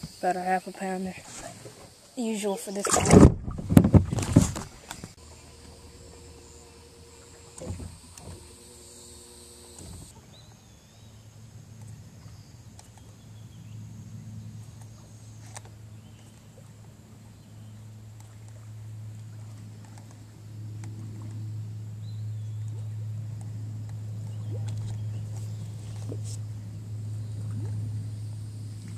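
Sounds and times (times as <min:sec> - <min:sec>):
low hum: 0:01.2 - 0:28.9.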